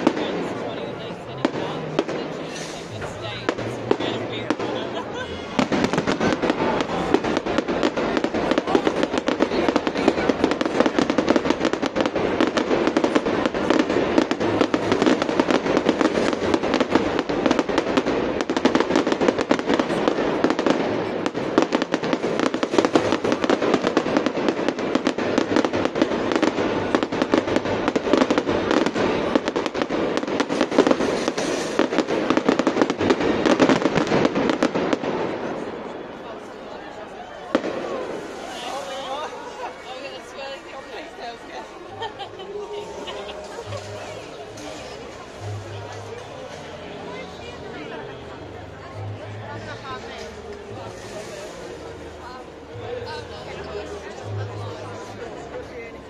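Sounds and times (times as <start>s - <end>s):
fireworks bangs and crackling: 0.0s - 48.5s, 49.2s - 55.8s.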